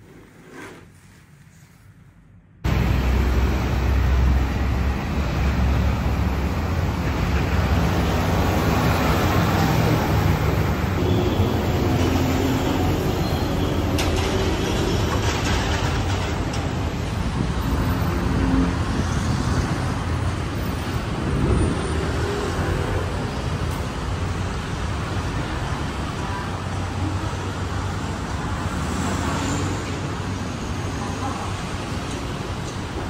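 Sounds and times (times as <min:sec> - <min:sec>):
city road traffic: 0:00.0 - 0:33.0.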